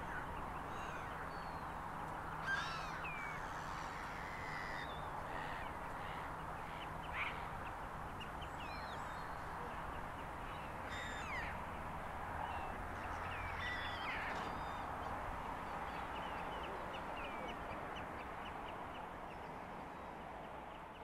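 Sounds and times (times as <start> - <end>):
birds calling: 0.0 - 11.6, 12.5 - 19.6
steady outdoor noise: 0.0 - 21.0.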